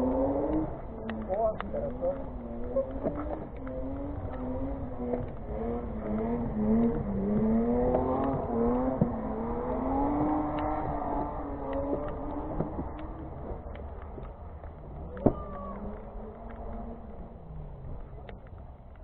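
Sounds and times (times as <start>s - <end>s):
go-kart engines revving: 0.0s - 19.0s.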